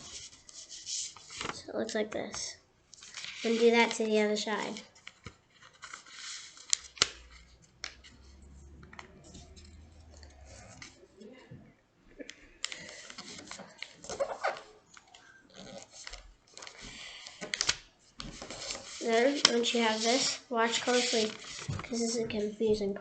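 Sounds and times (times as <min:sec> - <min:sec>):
paper being folded and creased: 0:00.0 - 0:02.0, 0:02.9 - 0:11.0, 0:12.6 - 0:22.5.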